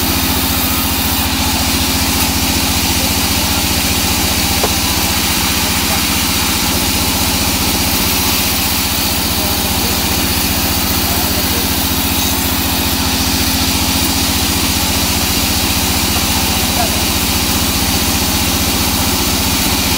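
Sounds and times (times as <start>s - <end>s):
band saw cutting log: 0.0s - 19.9s.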